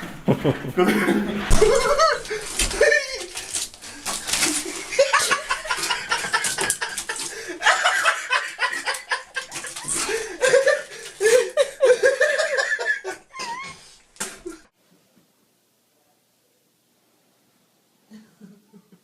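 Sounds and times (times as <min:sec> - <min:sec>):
people laughing: 0:00.1 - 0:14.7, 0:18.1 - 0:19.0.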